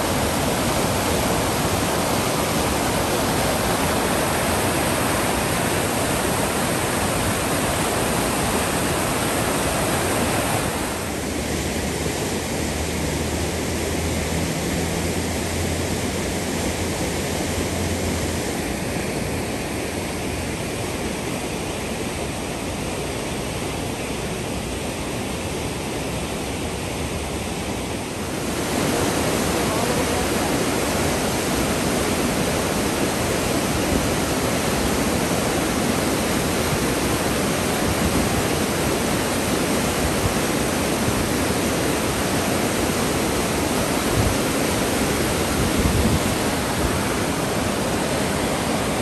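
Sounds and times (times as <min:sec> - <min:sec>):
steady rushing noise: 0:00.0 - 0:49.0.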